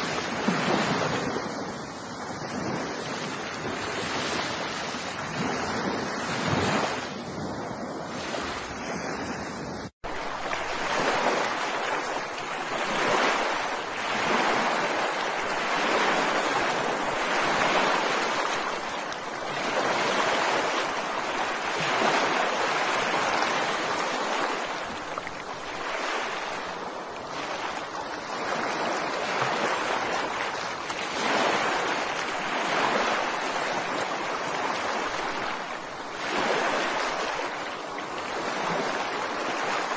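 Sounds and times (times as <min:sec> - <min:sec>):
ocean surf breaking on a beach: 0:00.0 - 0:39.9.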